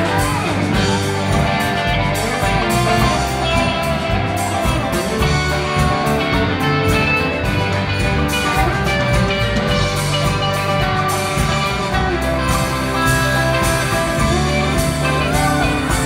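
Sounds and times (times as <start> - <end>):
drum kit steady beat: 0.0 - 16.0
electric guitar: 0.0 - 16.0
keyboard: 0.0 - 16.0.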